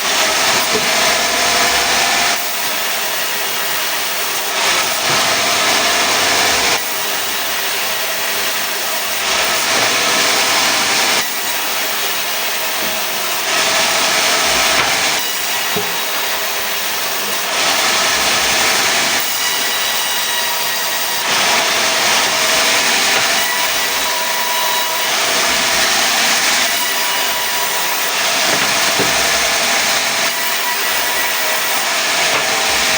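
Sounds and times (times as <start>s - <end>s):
saw cutting wood: 0.0s - 32.9s
sawmill machine hum: 0.0s - 32.9s.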